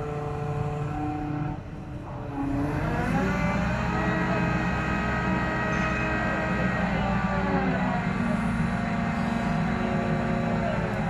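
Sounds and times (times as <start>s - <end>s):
crane diesel engine revving: 0.0s - 11.0s.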